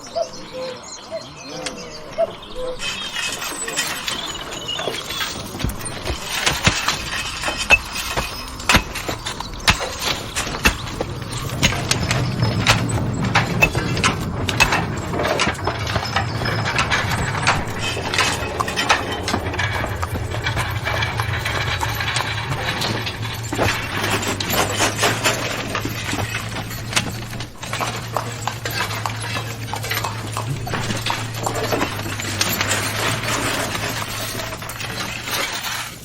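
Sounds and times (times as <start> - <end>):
horse hooves clip-clopping: 2.8 - 36.0
low machinery hum: 2.8 - 36.0
wooden and metal knocks: 2.8 - 36.0.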